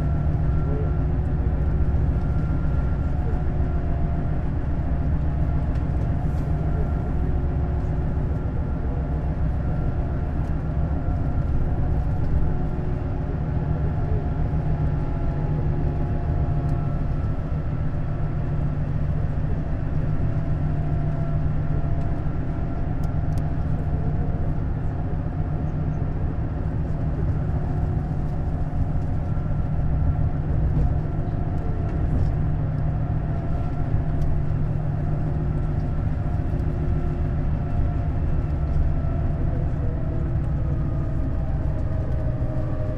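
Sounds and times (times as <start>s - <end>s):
diesel coach engine humming: 0.0s - 42.9s
road noise: 0.0s - 42.9s.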